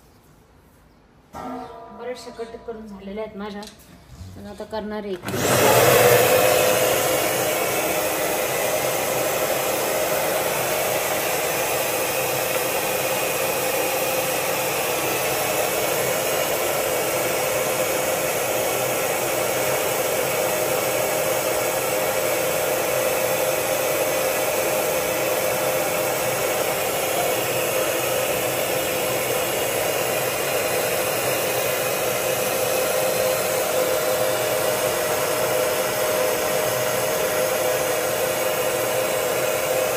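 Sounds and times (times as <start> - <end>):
electric blower motor running: 5.2 - 39.9.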